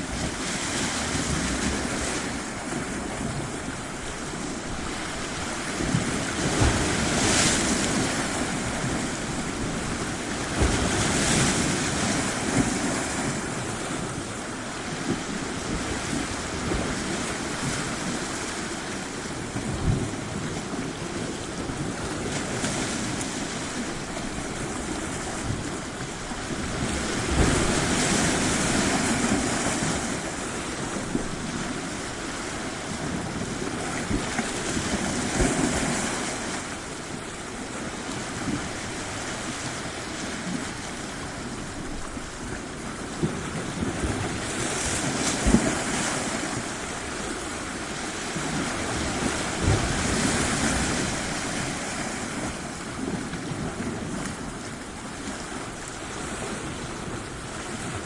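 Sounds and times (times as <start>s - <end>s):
ocean waves washing ashore: 0.0s - 58.0s
wind rumble on microphone: 0.0s - 58.0s.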